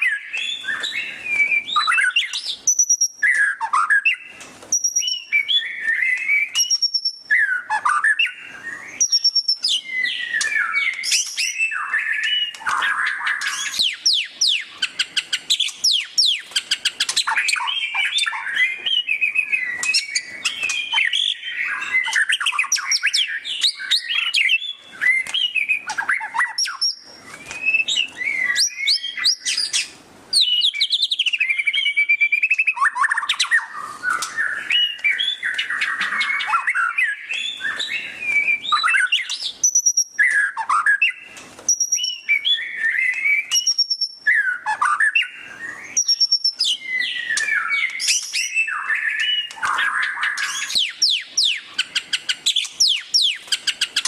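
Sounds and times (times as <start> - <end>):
bird singing whistles and chatter: 0.0 - 54.0.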